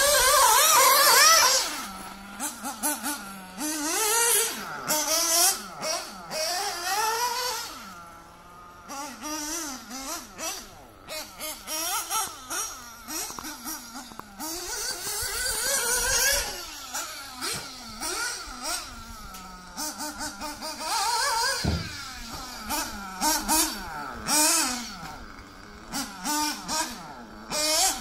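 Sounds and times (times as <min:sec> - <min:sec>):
rc car motors whining: 0:00.0 - 0:28.0.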